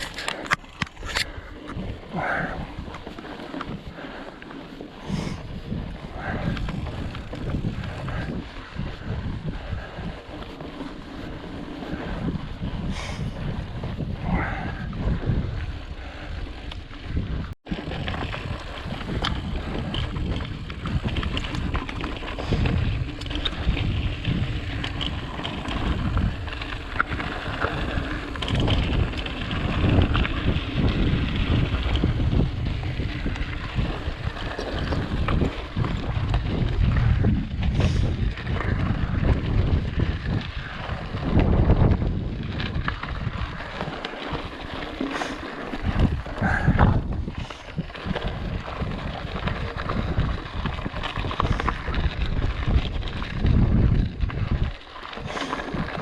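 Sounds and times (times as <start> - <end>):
bike rattling over rocks: 0.0 - 56.0
wind buffeting microphone: 0.0 - 56.0.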